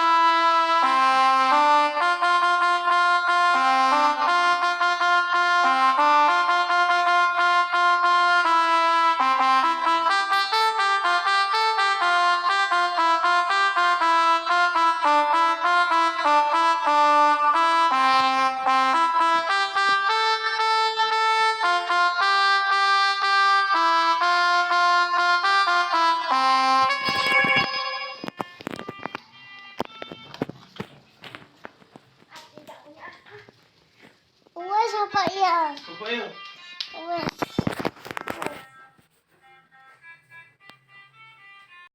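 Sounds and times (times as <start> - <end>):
reedy melodica notes: 0.0 - 31.4, 35.7 - 41.9.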